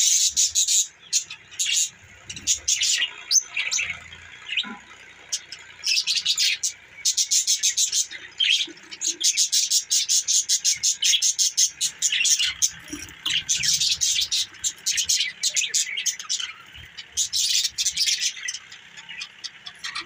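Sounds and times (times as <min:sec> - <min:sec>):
budgerigars chirping and chattering: 0:00.0 - 0:20.0.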